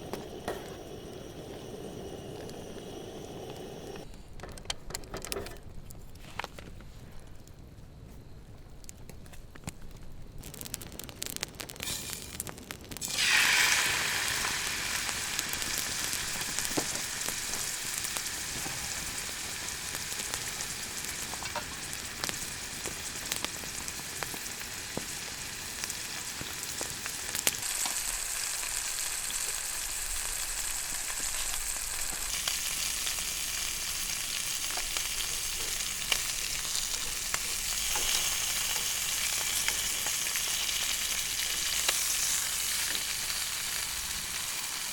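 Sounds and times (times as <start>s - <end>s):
campfire crackling and hissing: 0.0s - 4.5s, 5.4s - 44.9s.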